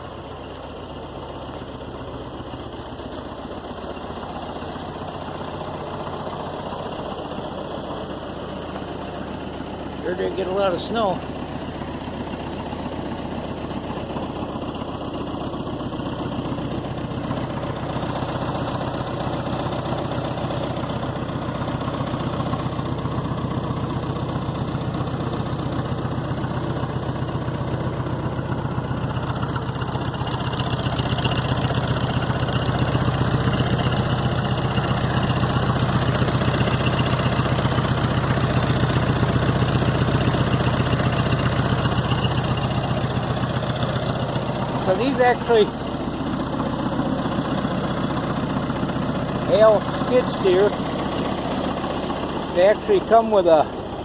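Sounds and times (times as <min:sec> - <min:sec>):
skid steer engine idling: 0:00.0 - 0:54.0.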